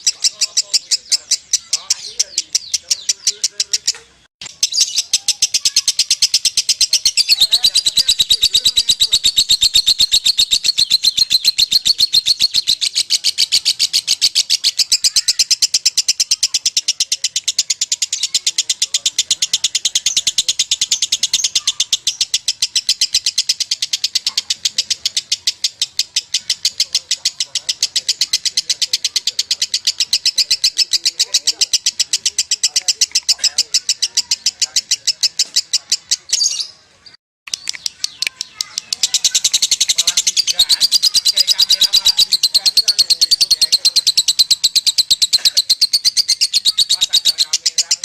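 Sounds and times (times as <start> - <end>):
lovebird chirping rapidly: 0.0 - 48.0.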